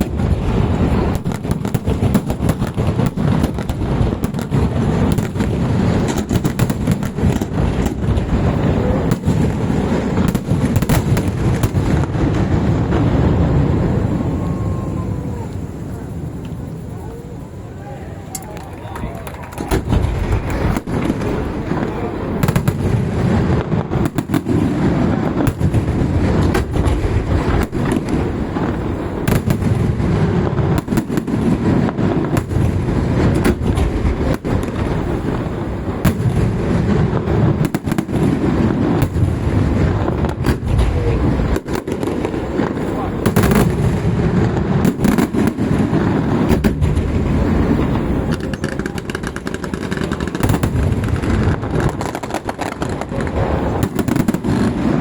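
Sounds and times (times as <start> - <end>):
onlookers' voices: 0.0 - 32.4, 33.0 - 55.0
fireworks banging: 0.0 - 55.0.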